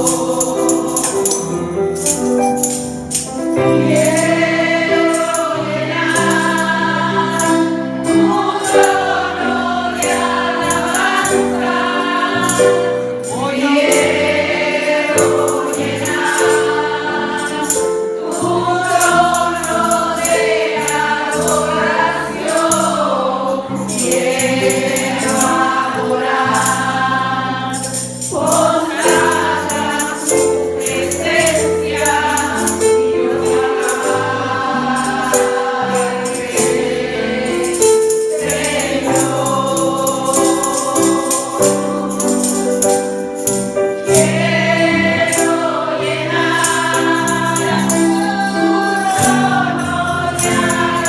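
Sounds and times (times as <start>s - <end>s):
group of voices singing: 0.0s - 51.0s
held keyboard chords: 0.0s - 51.0s
tambourine beat: 0.0s - 51.0s.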